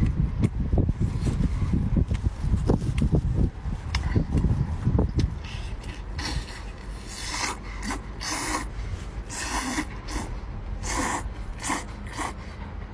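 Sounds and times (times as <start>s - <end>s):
rough rasping scratchy noises: 1.0s - 12.6s.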